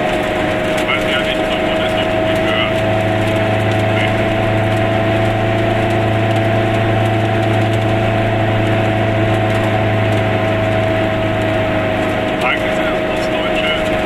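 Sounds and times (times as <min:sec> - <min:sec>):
high whine: 0:00.0 - 0:14.0
two-stroke car engine running: 0:00.0 - 0:14.0.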